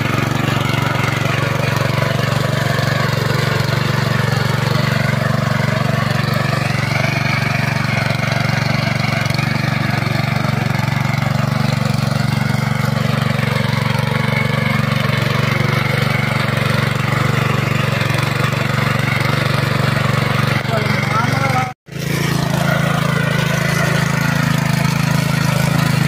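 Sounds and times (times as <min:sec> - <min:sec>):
weeder engine running: 0:00.0 - 0:26.0.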